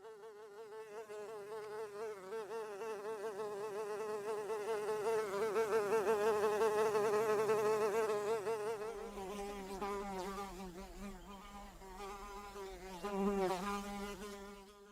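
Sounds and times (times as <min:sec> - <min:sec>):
housefly buzzing: 0:00.0 - 0:14.9.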